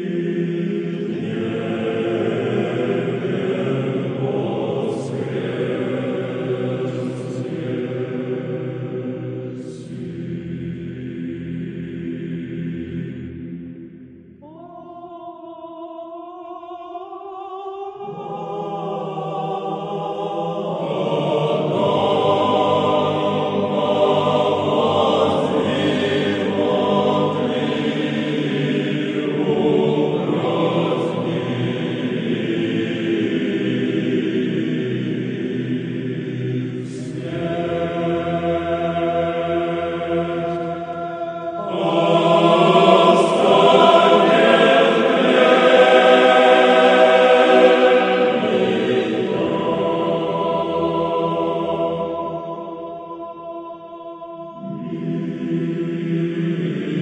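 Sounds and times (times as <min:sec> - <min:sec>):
church choir chanting: 0:00.0 - 0:57.0.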